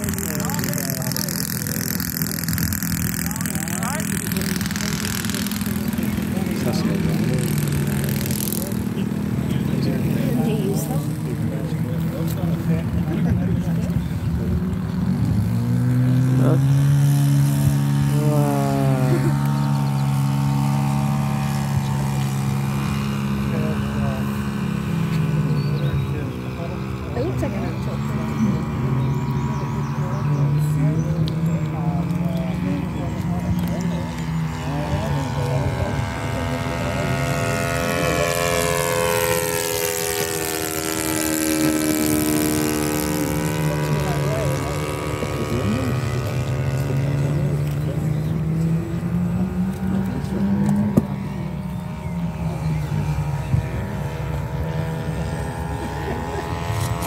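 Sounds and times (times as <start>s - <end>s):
model aeroplane engine at high power: 0.0s - 57.0s.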